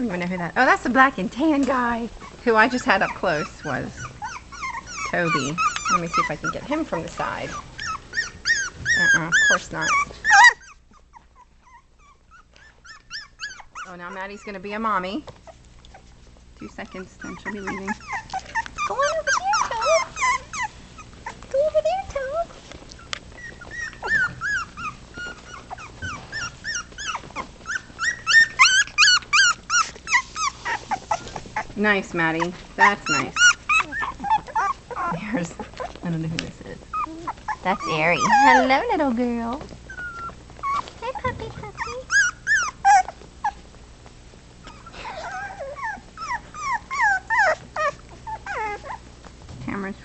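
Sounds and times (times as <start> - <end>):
puppies whimpering: 1.7 - 49.3.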